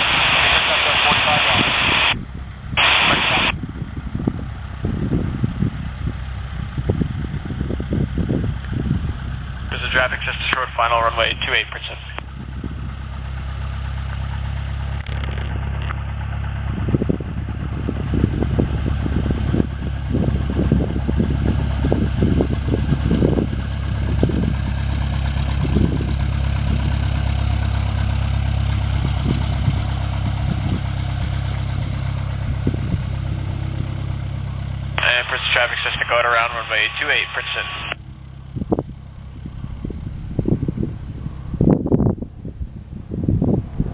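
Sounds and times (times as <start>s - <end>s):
low rumbles: 0.0s - 43.9s.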